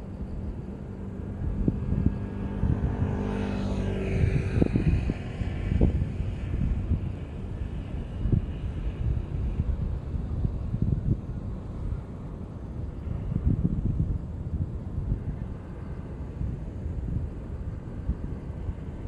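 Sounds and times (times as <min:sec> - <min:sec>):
airplane passing overhead: 0:00.0 - 0:19.0
wind rumbling on microphone: 0:00.0 - 0:19.0.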